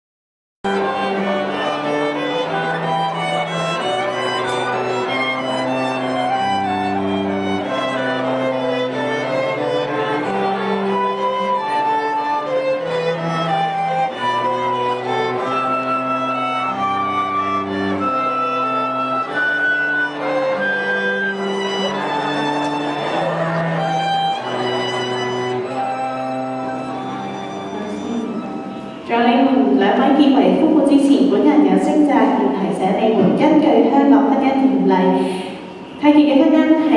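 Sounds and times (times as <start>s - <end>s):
bowed string chords and bass: 0.7s - 33.4s
violin melody: 0.7s - 36.9s.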